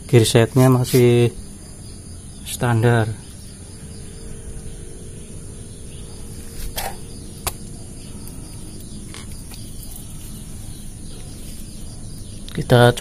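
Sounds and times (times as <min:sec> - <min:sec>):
high steady hiss: 0:00.0 - 0:13.0.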